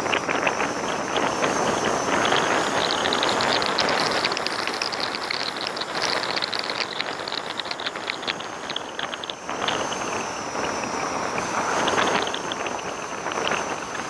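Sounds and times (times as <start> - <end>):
road and wind noise: 0.0 - 14.0
fast irregular ticking: 0.2 - 14.0.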